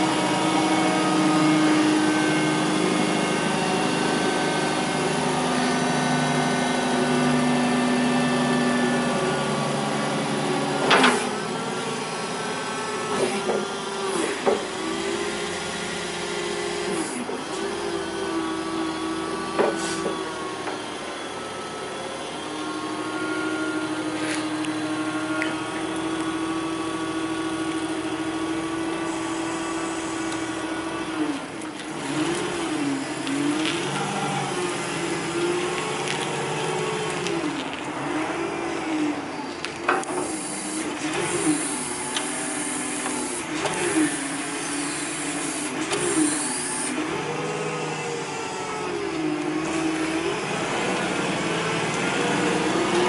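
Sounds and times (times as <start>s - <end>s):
forklift engine revving: 0.0s - 53.0s.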